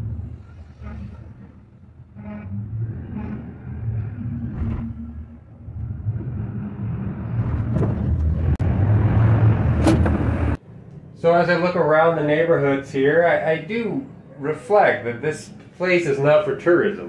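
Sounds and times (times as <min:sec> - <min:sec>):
cable car low rumble: 0:00.0 - 0:17.0.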